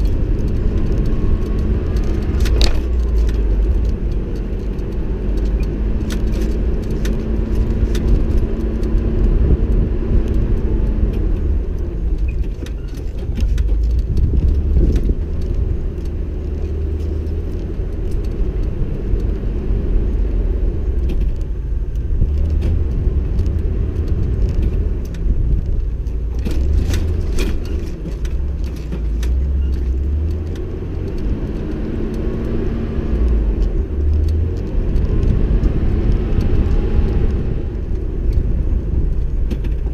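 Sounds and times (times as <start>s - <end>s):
off-road vehicle engine rumble: 0.0s - 39.9s.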